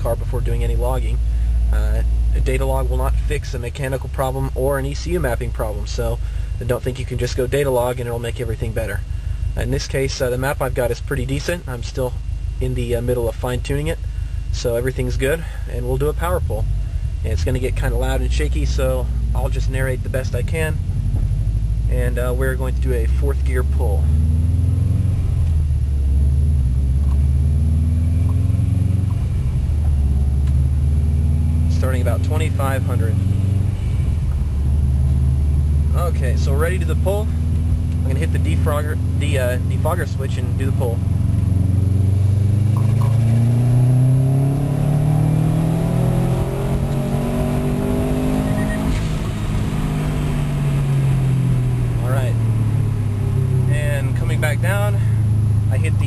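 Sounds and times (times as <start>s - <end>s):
car engine running at low revs: 0.0s - 56.0s
road noise: 0.0s - 56.0s.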